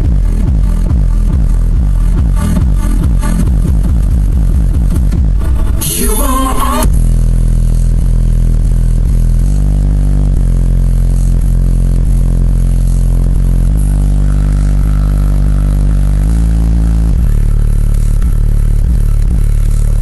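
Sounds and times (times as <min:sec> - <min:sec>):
bass-heavy music through subwoofer: 0:00.0 - 0:20.0.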